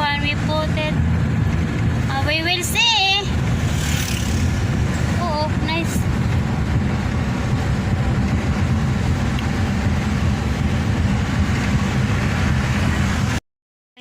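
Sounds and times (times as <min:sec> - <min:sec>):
vehicle road noise: 0:00.0 - 0:13.4.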